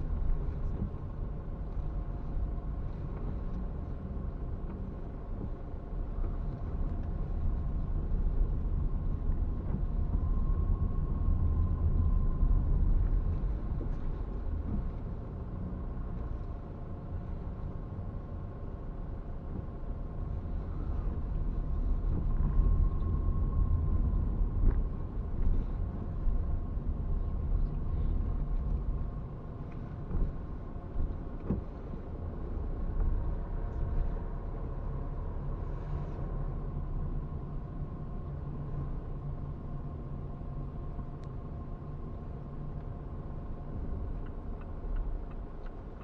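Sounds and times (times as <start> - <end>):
car engine and tyres rumbling: 0.0 - 46.0
faint steady hum: 0.0 - 46.0.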